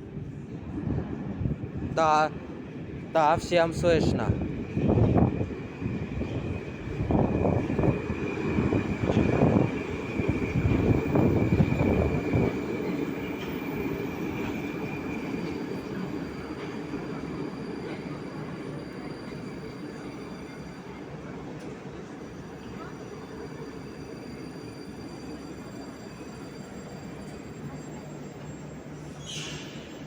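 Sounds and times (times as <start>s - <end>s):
metro train rumbling: 0.0s - 30.0s.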